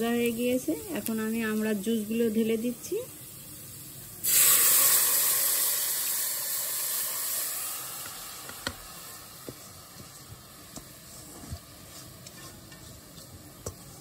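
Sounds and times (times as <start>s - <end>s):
juice sizzling in hot fat: 0.0s - 14.0s.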